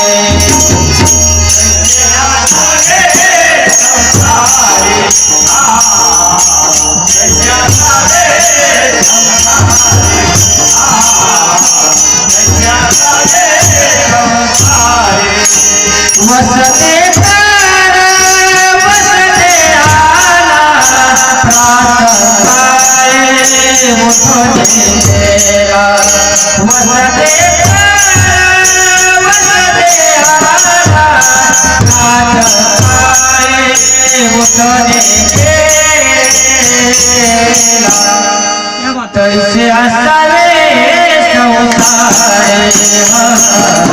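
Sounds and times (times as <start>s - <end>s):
drum beats: 0.0s - 39.0s, 40.8s - 43.9s
jingling percussion: 0.0s - 43.9s
person singing devotional song: 0.0s - 43.9s.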